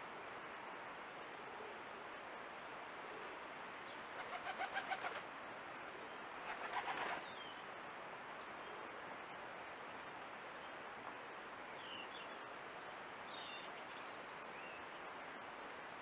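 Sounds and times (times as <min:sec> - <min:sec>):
steady microphone hiss: 0:00.0 - 0:16.0.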